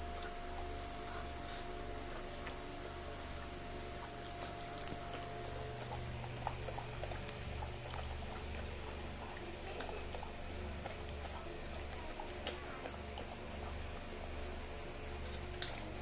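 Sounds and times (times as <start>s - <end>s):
dog chewing kibble: 0.0s - 16.0s
steady low hum: 0.0s - 16.0s.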